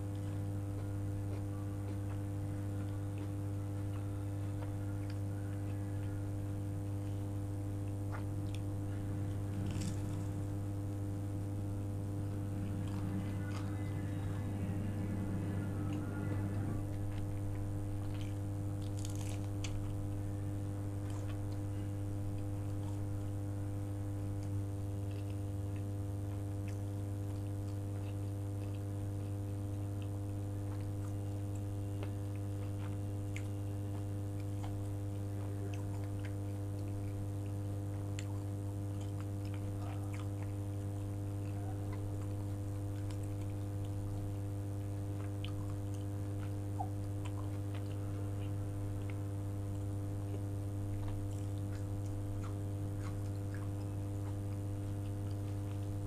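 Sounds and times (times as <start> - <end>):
slow chewing with mouth clicks: 0.0 - 56.0
steady low hum: 0.0 - 56.0.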